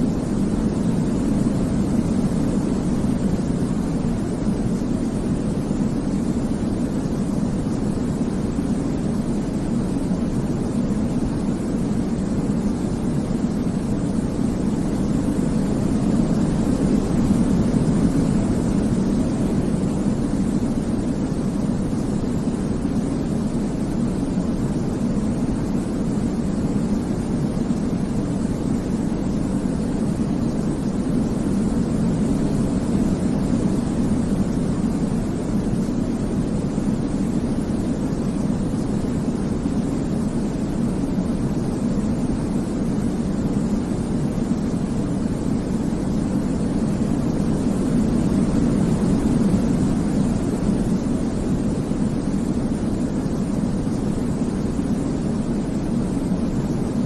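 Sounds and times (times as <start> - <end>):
deep white noise hiss: 0.0 - 57.0.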